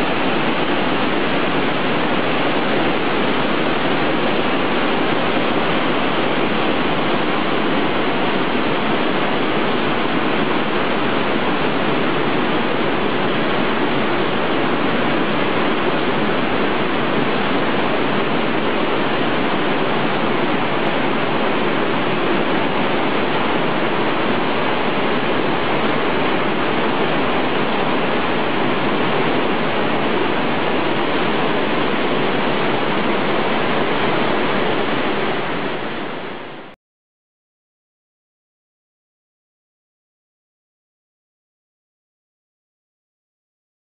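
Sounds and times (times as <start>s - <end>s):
waterfall rushing: 0.0s - 36.8s.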